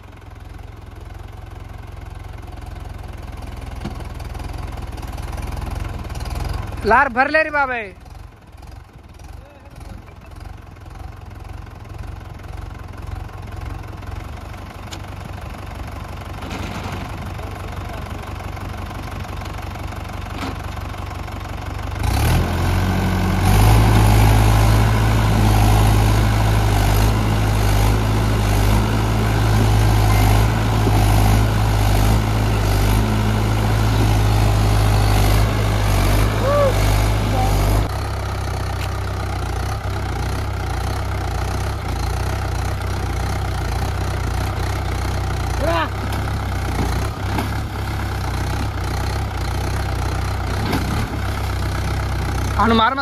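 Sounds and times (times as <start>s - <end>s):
tractor diesel engine revving: 1.0s - 53.0s.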